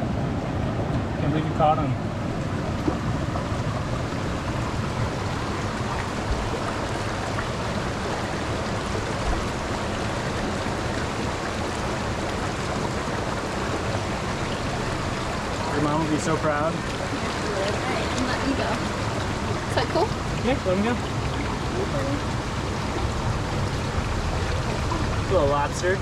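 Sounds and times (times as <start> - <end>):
stream water pouring over rocks: 1.2 - 26.0.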